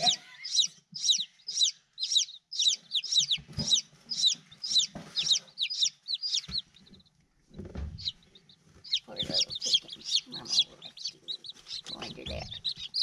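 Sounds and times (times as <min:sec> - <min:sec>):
chick peeping: 0:00.0 - 0:13.0.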